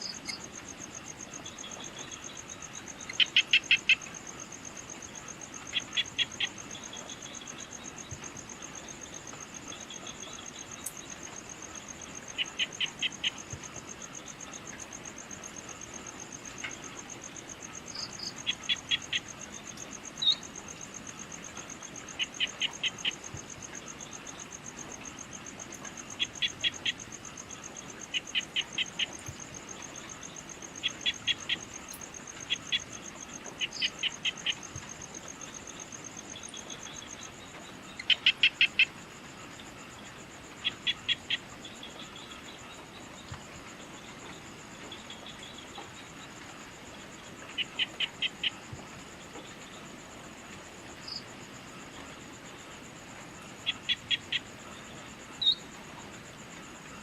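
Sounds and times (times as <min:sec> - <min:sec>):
insect trilling: 0:00.0 - 0:48.8, 0:53.6 - 0:55.7.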